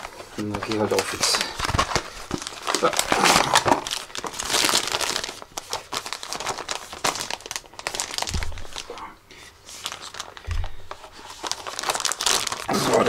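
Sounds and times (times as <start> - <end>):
cardboard and plastic crinkling: 0.0 - 13.0.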